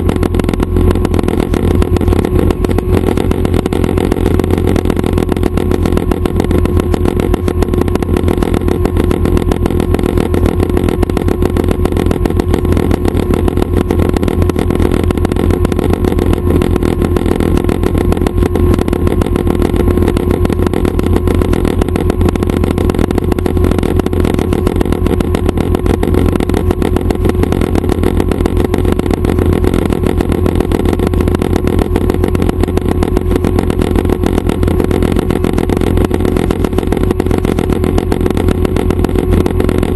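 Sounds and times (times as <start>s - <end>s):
helicopter engine and rotors drone: 0.0s - 39.9s.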